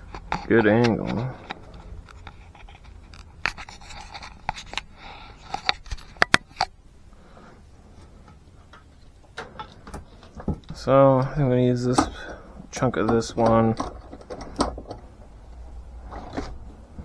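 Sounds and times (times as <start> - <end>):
knocks and clicks of handled objects: 0.0 - 6.8, 8.0 - 17.0
low room hum: 0.0 - 17.0.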